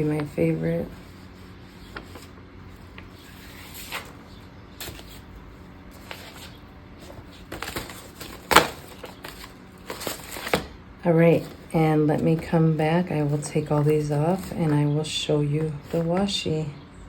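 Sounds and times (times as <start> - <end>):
paper sheets rustling: 0.0 - 16.5.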